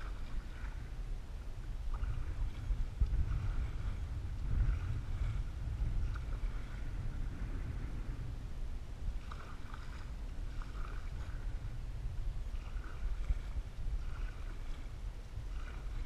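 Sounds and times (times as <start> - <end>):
paddle strokes splashing: 0.0 - 16.0
steady low rumble: 0.0 - 16.0.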